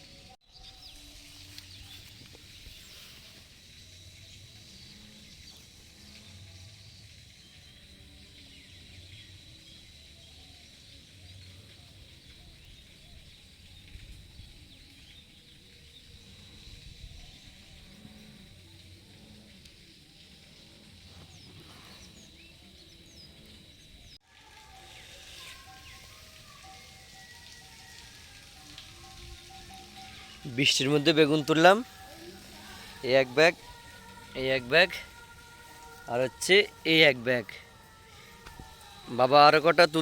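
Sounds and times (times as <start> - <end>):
high-pitched insect call: 0.0 - 40.0.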